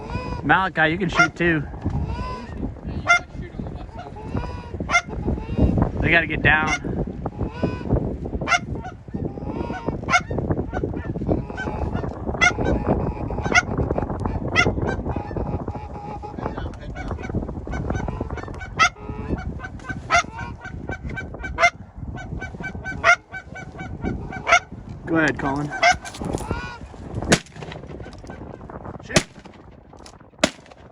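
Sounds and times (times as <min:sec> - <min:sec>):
geese honking and clucking: 0:01.1 - 0:03.3, 0:03.9 - 0:05.7, 0:06.6 - 0:24.8, 0:25.4 - 0:28.4.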